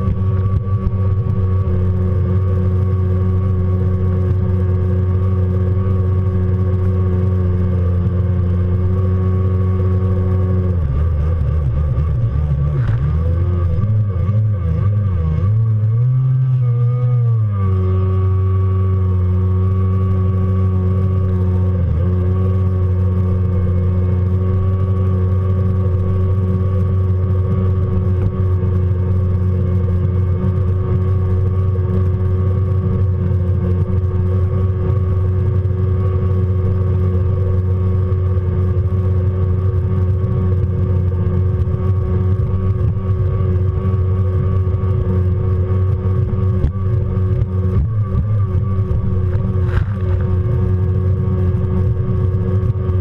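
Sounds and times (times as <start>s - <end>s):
jet ski engine at high revs: 0.0s - 53.0s.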